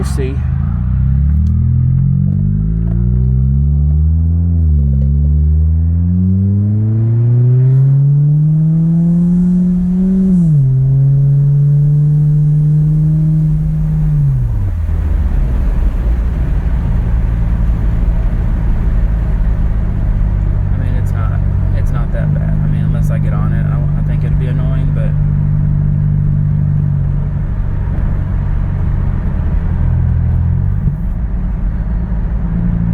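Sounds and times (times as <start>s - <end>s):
car engine accelerating: 0.0s - 32.9s
road and wind noise: 0.0s - 32.9s.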